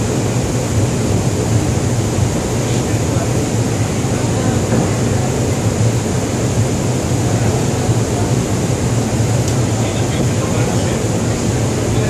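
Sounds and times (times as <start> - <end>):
murmur of many voices: 0.0 - 12.0.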